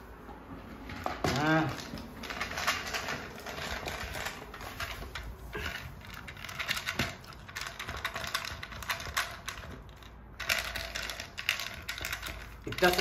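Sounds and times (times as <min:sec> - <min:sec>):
dog eating from a bowl: 0:00.6 - 0:13.0.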